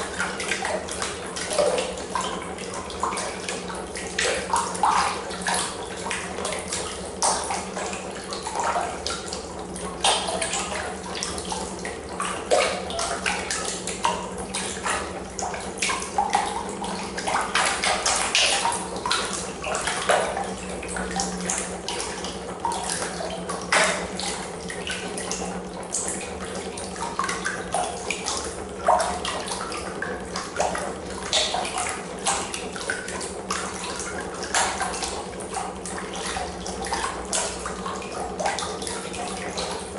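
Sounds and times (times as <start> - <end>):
steady low hum: 0.0 - 39.9
water churning and splashing: 0.0 - 39.9.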